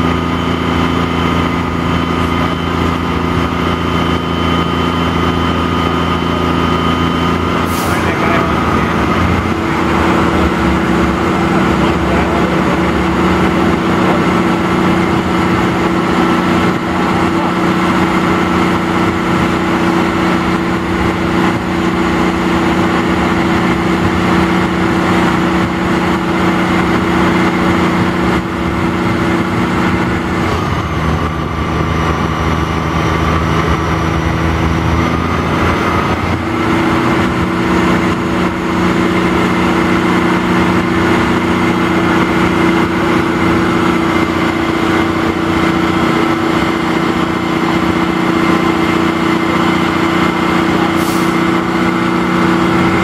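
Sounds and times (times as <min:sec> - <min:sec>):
crane diesel engine running: 0:00.0 - 0:53.0.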